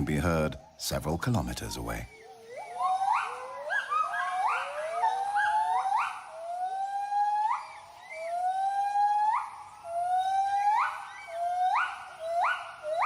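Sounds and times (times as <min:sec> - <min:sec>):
gibbons hooting: 0:01.6 - 0:13.0.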